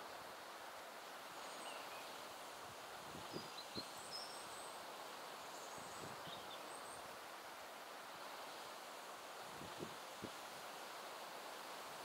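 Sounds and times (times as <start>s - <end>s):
soft steady hiss: 0.0s - 12.0s.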